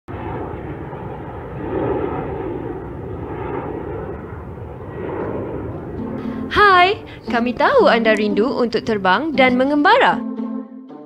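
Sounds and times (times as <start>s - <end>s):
airliner cabin drone: 0.1s - 9.7s.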